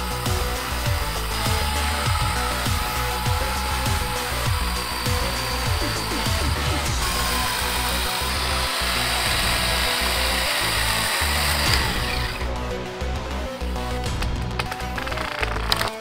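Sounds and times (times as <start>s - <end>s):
background music with beat: 0.0s - 16.0s
electric chainsaw cutting log: 0.0s - 16.0s.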